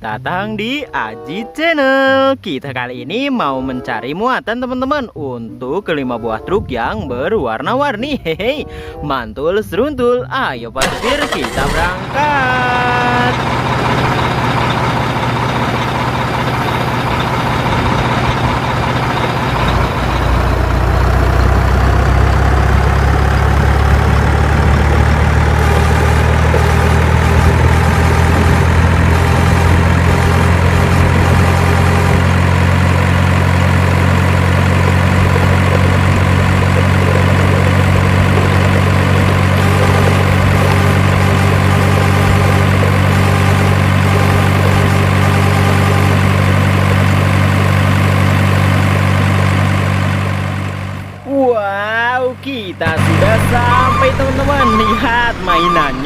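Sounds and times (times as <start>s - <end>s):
heavy truck engine running: 10.8s - 56.0s.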